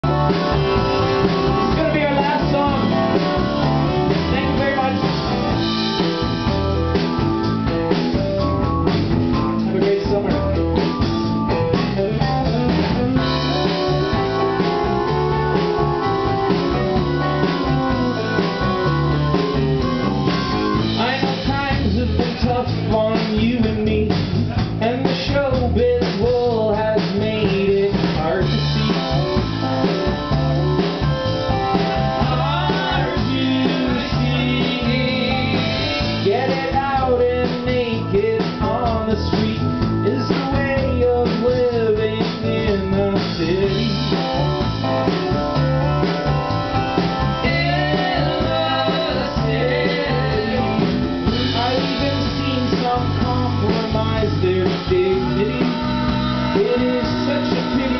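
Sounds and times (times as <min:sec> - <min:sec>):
man singing: 0:00.0 - 0:06.5, 0:09.6 - 0:11.1, 0:11.7 - 0:30.1, 0:31.6 - 0:45.2, 0:47.0 - 0:57.9
live rock band playing: 0:00.0 - 0:57.9.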